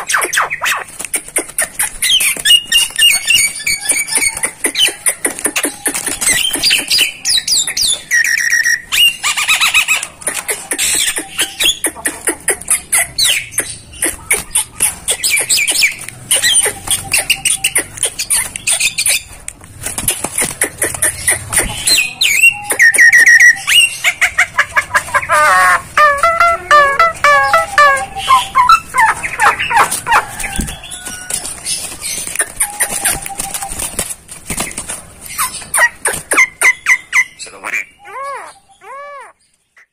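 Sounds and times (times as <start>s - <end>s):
myna bird chattering: 0.0s - 39.9s.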